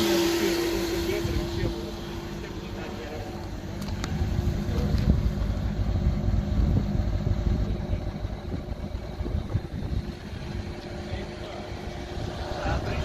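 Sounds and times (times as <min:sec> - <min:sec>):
car engine running unevenly: 0:00.0 - 0:13.0.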